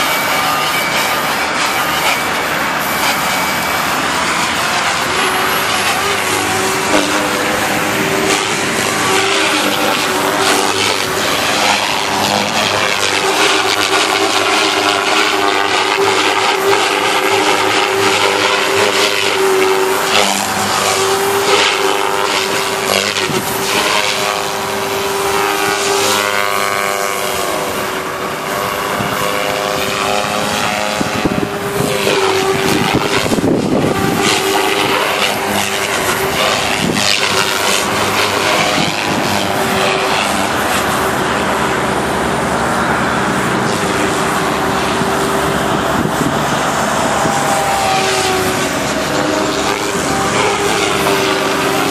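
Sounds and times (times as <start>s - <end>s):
model helicopter rotor hum: 0.0s - 51.9s.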